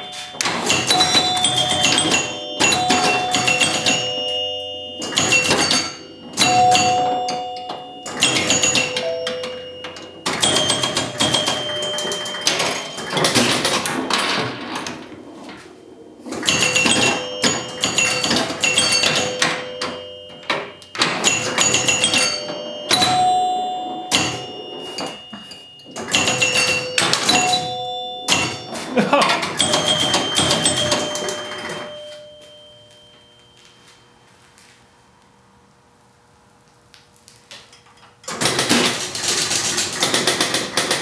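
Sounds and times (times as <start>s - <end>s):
pinball score chimes: 0.0s - 34.2s, 38.2s - 41.0s
pinball switches clattering: 0.4s - 15.2s, 16.2s - 32.3s, 38.2s - 41.0s.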